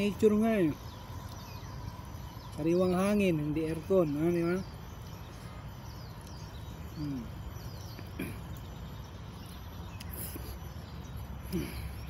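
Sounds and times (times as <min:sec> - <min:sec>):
faint bird chirps: 0:00.0 - 0:12.0
insects calling: 0:00.0 - 0:12.0
low background rush: 0:00.0 - 0:12.0.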